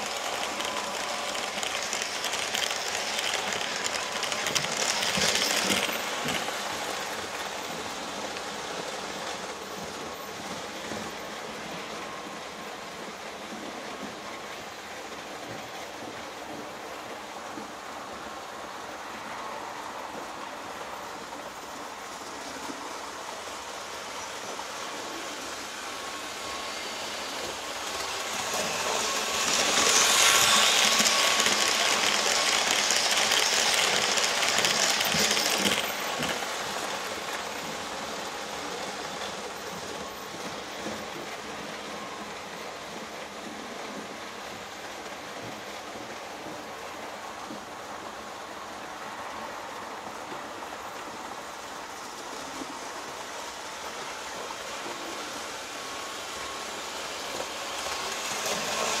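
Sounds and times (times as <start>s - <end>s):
model train running on metal track: 0.0s - 59.0s.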